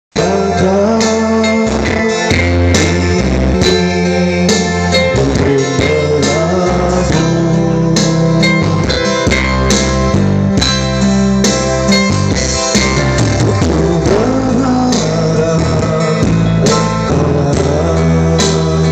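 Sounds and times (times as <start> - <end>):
keyboard pop instrumental: 0.1 - 18.9.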